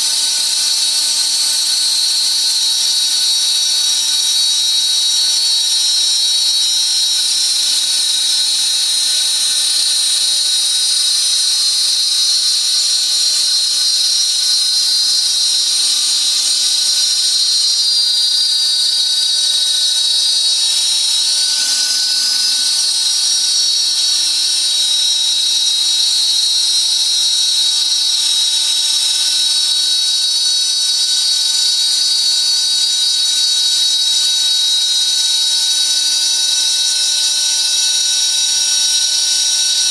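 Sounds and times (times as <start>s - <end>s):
milling machine spindle whining: 0.0s - 39.9s.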